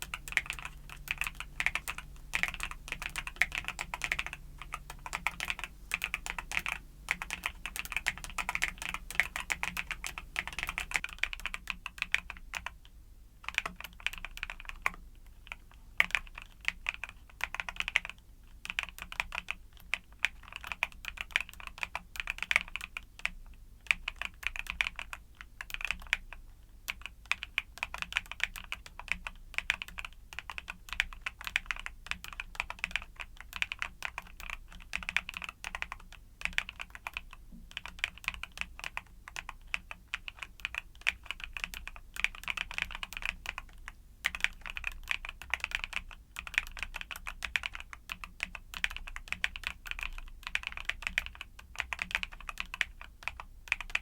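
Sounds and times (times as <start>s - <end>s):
mechanical keyboard typing: 0.0s - 12.8s, 13.5s - 54.0s.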